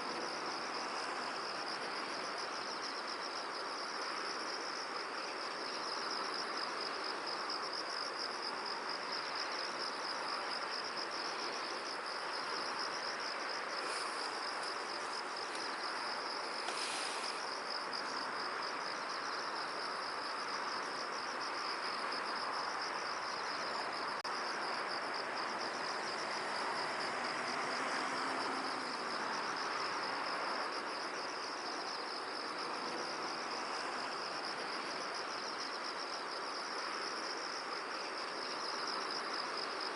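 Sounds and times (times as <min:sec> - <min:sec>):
insects chirping: 0:00.0 - 0:39.9
wind hissing in a field: 0:00.0 - 0:39.9.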